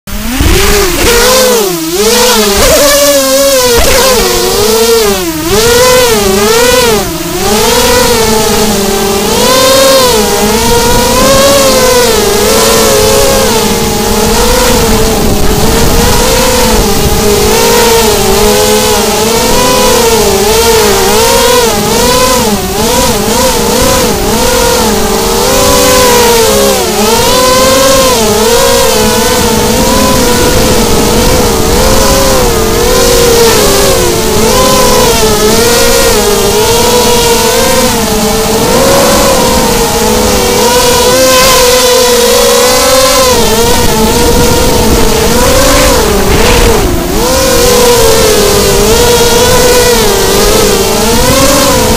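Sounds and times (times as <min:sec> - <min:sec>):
drone motors and propellers whining: 0:00.0 - 0:51.9.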